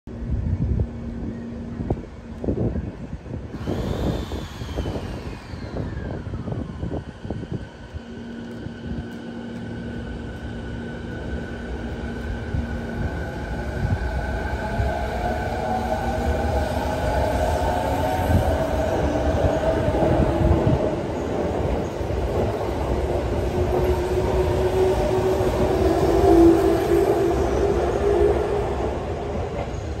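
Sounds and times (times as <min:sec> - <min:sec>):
wheel and rail rumble: 0:00.1 - 0:30.0
electric train motors whining: 0:03.5 - 0:30.0.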